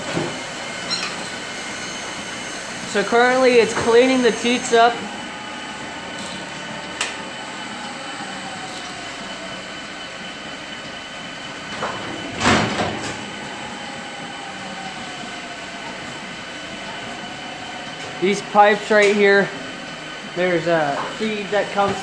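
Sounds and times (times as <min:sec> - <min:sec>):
milking machine hum with whine: 0:00.0 - 0:22.0.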